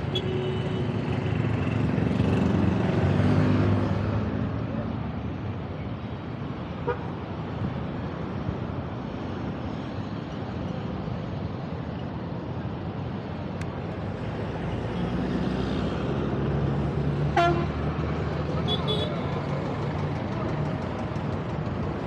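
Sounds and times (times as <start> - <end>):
passing vehicles and road noise: 0.0 - 22.0
vehicle engine drone: 0.0 - 22.0.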